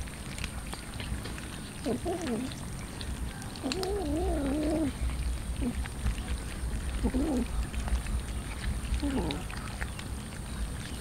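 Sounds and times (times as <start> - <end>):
cats chewing and tearing meat: 0.0 - 11.0.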